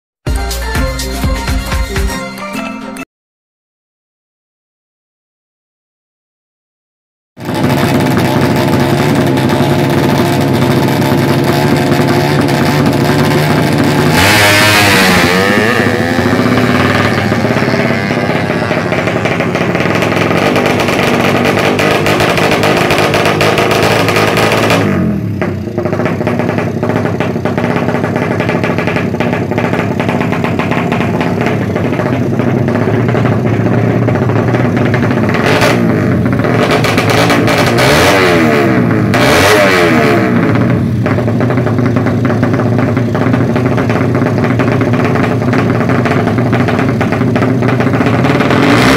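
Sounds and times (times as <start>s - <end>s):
motorcycle engine revving hard: 7.4s - 48.9s.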